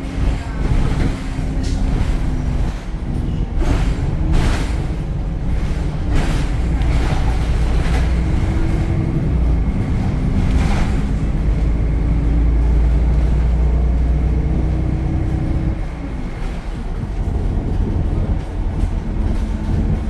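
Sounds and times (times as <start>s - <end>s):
bus diesel engine droning: 0.0s - 20.0s.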